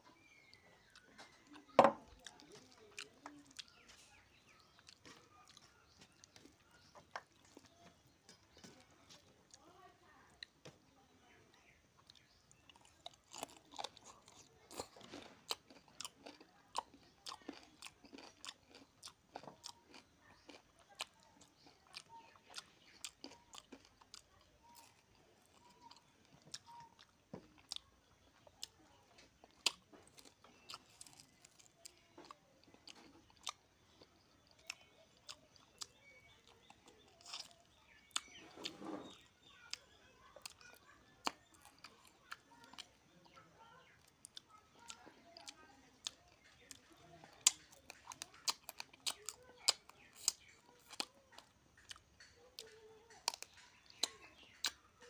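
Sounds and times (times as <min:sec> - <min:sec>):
person chewing food: 0:00.1 - 0:09.7, 0:11.9 - 0:55.0.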